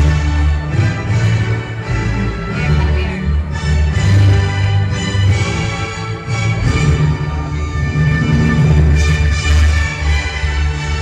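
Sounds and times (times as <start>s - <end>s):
deep held bass notes: 0.0s - 11.0s
orchestral music: 0.0s - 11.0s.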